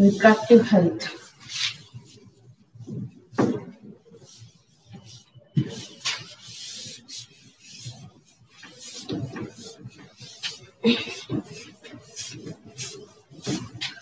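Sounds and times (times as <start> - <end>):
duster scrubbing chalkboard: 0.0 - 14.0.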